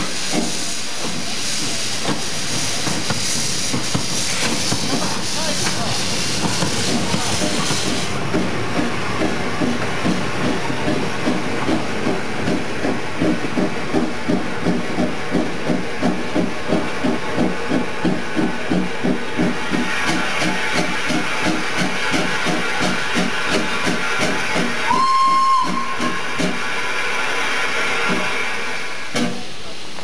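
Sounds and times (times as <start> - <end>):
steady steam hiss: 0.0 - 30.0
steam locomotive chuffing: 0.0 - 30.0.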